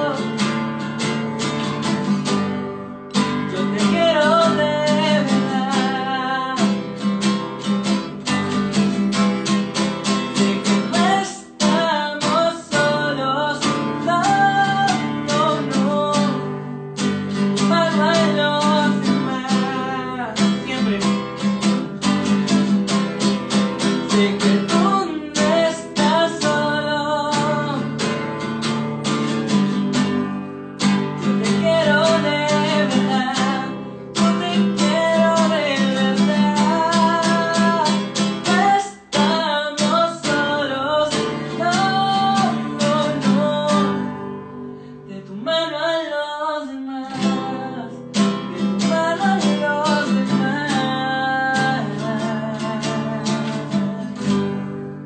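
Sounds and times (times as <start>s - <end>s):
man singing: 0.0s - 9.0s, 10.4s - 55.0s
strummed acoustic guitar: 0.0s - 55.0s.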